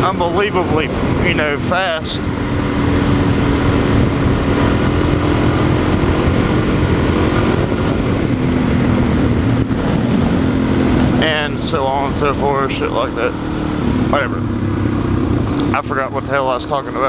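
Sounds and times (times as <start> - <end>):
wind noise on microphone: 0.0 - 15.8
motorcycle engine running: 0.0 - 17.0.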